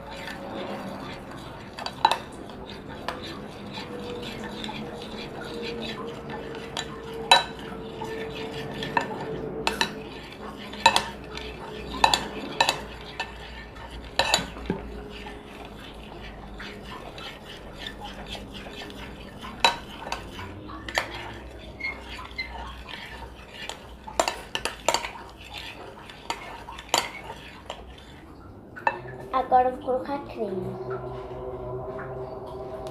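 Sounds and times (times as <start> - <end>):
utensil scraping slime: 0.0 - 29.7.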